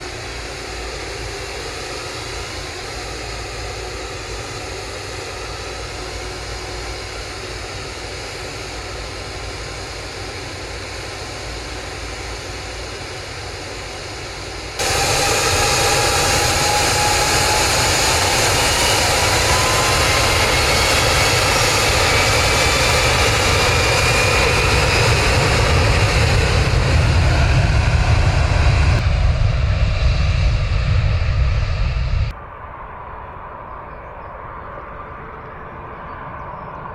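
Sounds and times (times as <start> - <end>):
jet airliner engines roaring: 0.0 - 36.9
rising engine whine: 0.0 - 36.9.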